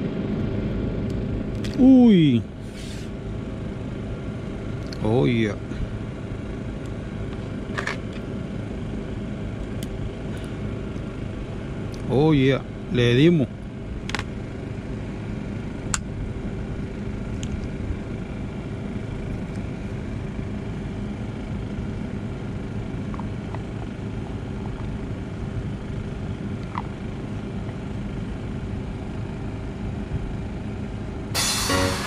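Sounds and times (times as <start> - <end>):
steady engine-like drone: 0.0 - 32.0.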